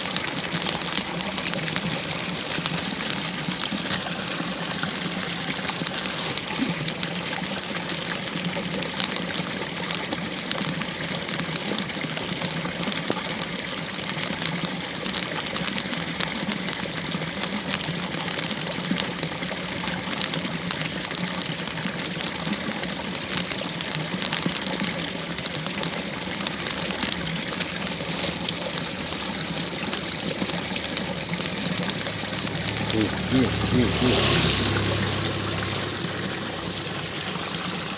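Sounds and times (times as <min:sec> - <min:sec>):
rain pattering: 0:00.0 - 0:37.9
water rushing in a ditch: 0:00.0 - 0:37.9.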